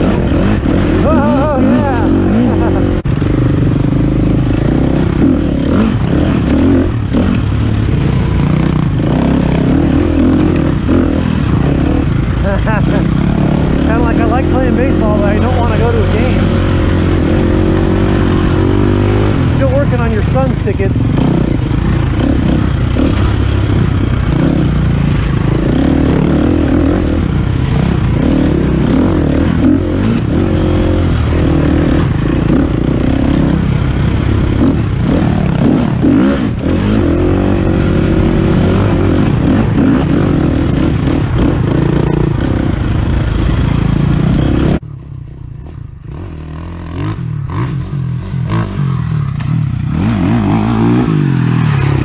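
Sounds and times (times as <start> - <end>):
dirt bike engine revving: 0.0 - 44.9, 45.6 - 52.0
bike rattling: 0.0 - 52.0.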